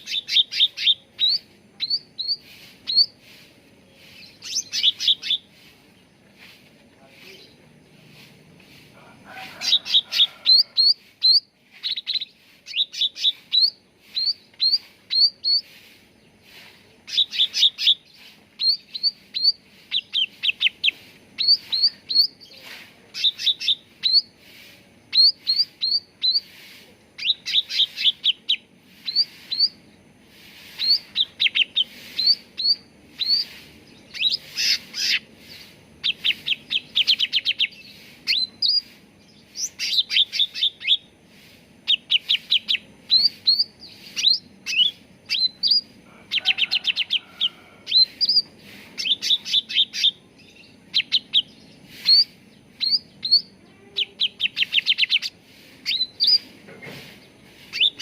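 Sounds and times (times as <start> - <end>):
bird chirping: 0.0 - 8.7, 9.6 - 58.0.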